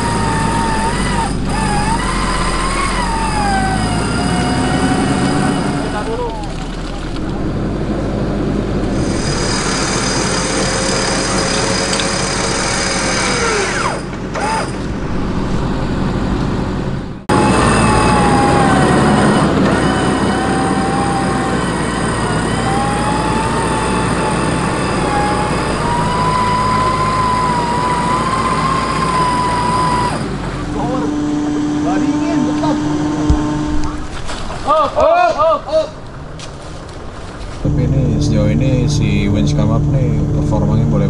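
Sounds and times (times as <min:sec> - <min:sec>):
wheels churning through mud: 0:00.0 - 0:16.7, 0:17.3 - 0:38.2
winch whining under load: 0:00.0 - 0:34.1
engine running: 0:00.0 - 0:34.6, 0:36.0 - 0:41.0.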